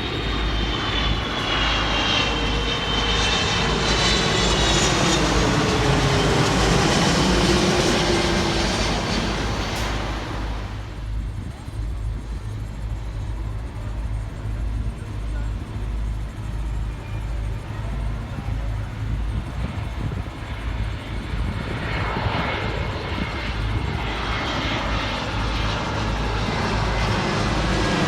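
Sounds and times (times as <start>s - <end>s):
jet airliner engine roar: 0.0s - 28.0s
steady low rumble: 0.0s - 28.0s.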